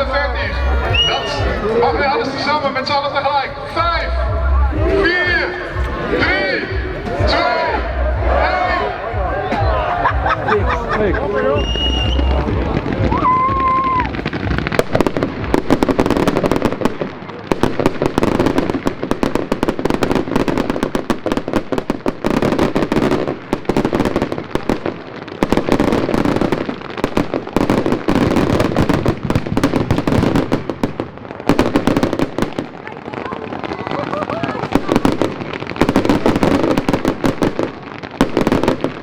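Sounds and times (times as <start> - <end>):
fireworks crackling and banging: 0.0 - 39.0.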